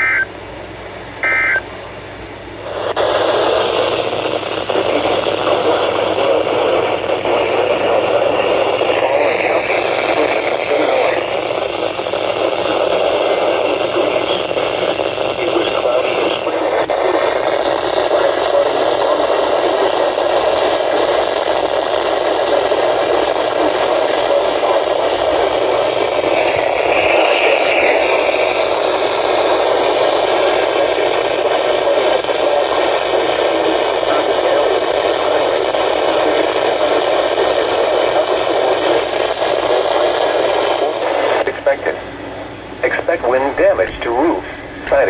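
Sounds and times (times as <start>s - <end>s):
radio static hiss: 0.0s - 0.3s, 1.0s - 45.0s.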